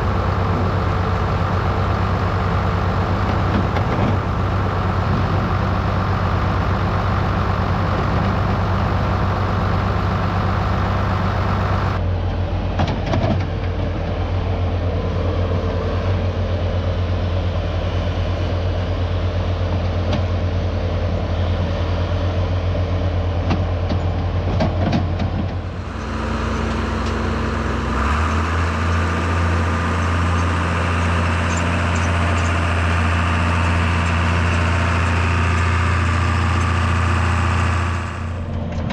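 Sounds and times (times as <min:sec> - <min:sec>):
farm machinery diesel engines: 0:00.0 - 0:38.9.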